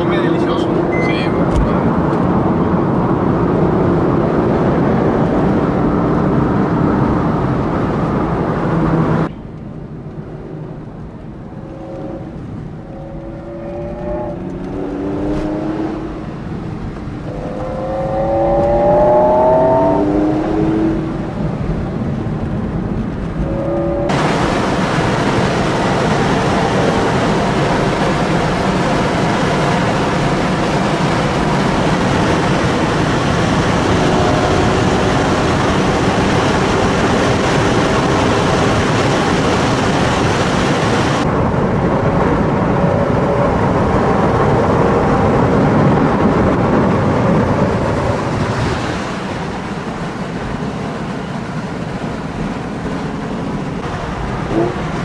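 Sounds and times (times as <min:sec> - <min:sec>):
car engine revving: 0:00.0 - 0:09.3, 0:09.9 - 0:55.0
road noise: 0:00.0 - 0:55.0.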